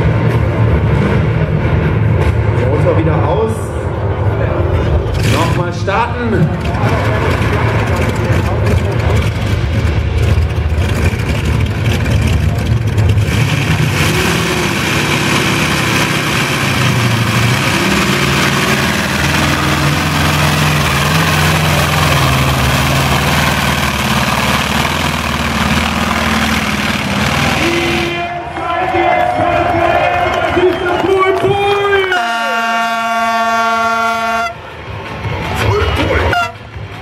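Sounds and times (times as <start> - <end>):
tractor engine roaring under load: 0.0 - 37.0.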